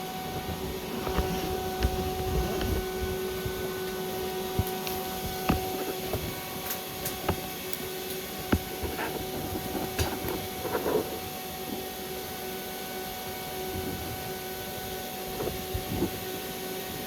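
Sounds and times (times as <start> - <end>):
welder electrical hum: 0.0 - 17.0.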